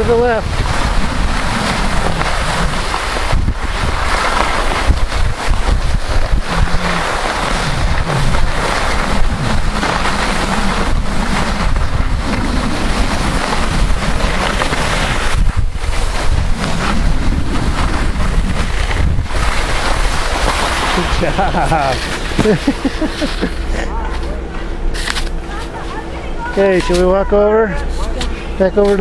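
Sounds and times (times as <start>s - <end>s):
wind buffeting microphone: 0.0s - 23.7s
skis sliding on snow: 0.0s - 24.2s.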